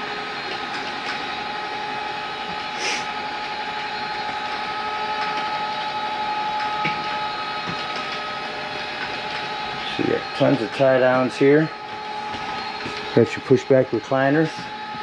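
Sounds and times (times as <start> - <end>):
lift motor whirring: 0.0 - 15.0.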